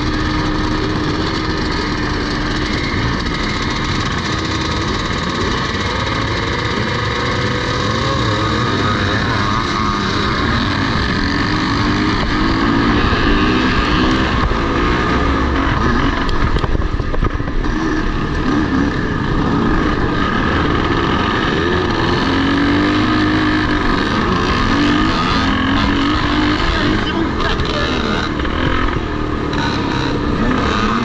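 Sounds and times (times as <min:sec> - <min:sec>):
motocross motorcycles revving: 0:00.0 - 0:31.0.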